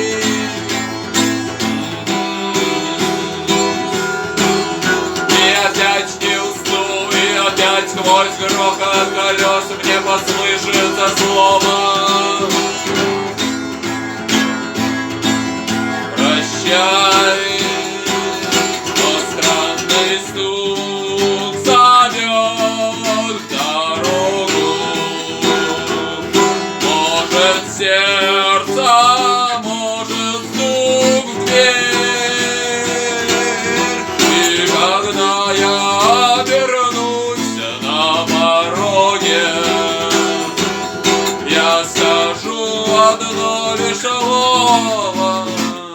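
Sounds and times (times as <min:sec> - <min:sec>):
acoustic guitar playing: 0:00.0 - 0:45.9
person singing: 0:00.0 - 0:45.9.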